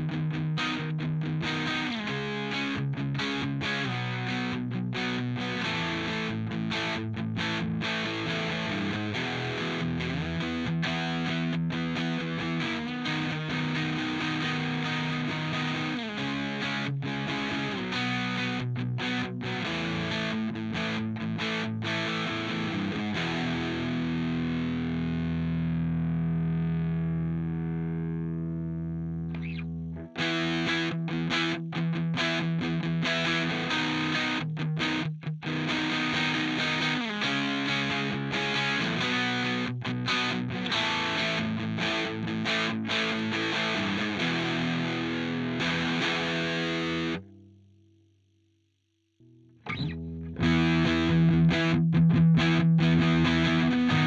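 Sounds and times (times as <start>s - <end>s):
distorted electric guitar: 0.0s - 47.6s, 49.3s - 54.0s.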